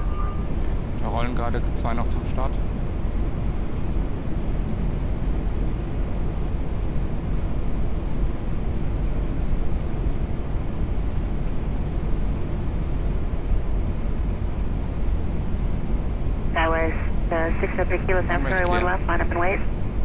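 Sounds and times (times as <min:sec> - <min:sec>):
airliner cockpit airflow and engines: 0:00.0 - 0:20.0.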